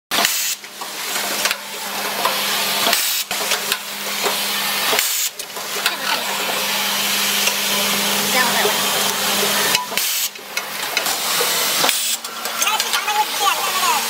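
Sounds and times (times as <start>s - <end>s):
machine hissing: 0.1s - 14.0s
low machine hum: 0.8s - 14.0s.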